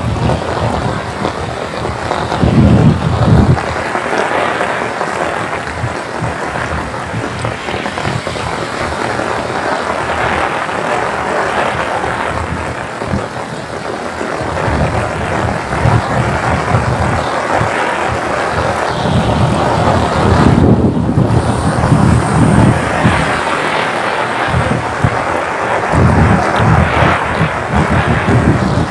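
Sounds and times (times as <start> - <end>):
deep uneven rumble: 0.0 - 28.9
heavy rain on road: 0.0 - 28.9.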